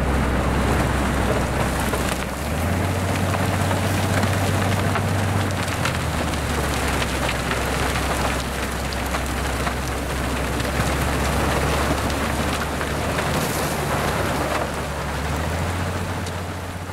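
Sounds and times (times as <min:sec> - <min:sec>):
low engine drone: 0:00.0 - 0:16.9.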